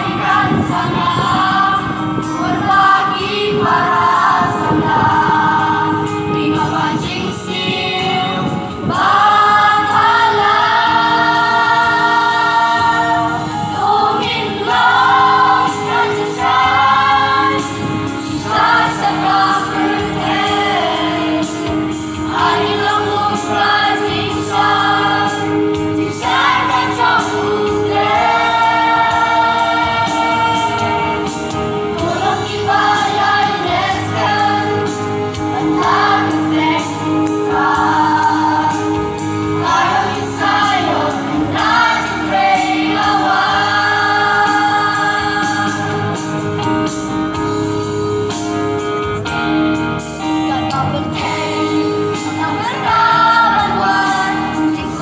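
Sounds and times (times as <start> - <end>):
mixed choir singing a hymn: 0.0 - 48.4, 50.5 - 55.0.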